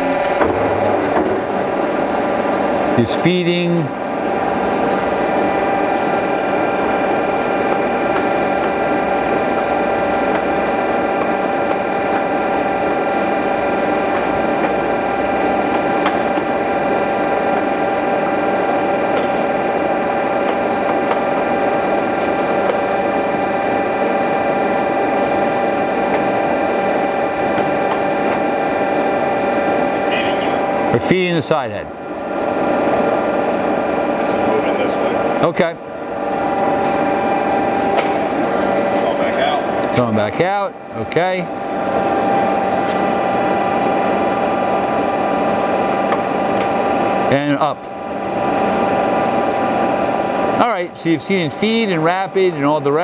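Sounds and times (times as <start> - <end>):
lathe gear whine: 0.0 - 53.0
machine hum: 0.0 - 53.0.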